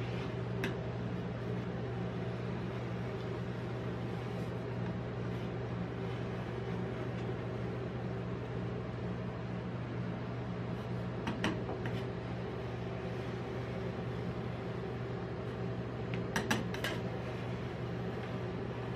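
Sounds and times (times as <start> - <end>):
ice cream machine humming: 0.0 - 18.9.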